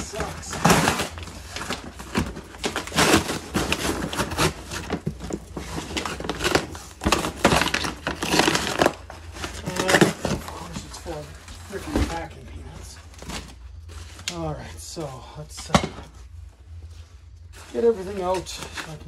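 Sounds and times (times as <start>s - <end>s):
cardboard rustling and crinkling: 0.0s - 15.1s, 15.7s - 19.0s.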